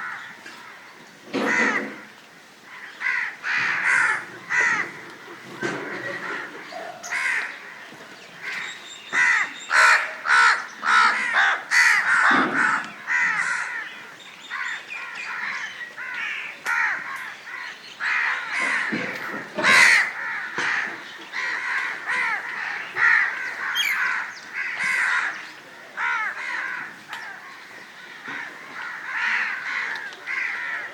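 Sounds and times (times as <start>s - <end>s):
crows cawing: 0.0s - 30.9s.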